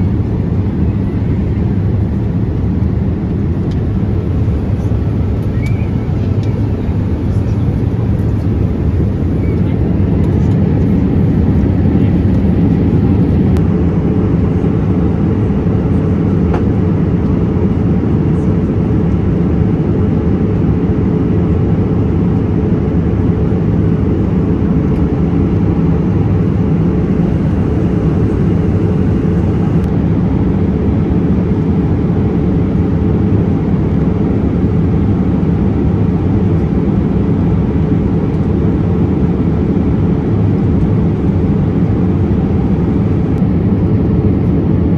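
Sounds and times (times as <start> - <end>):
airliner cabin engine noise: 0.0 - 44.9.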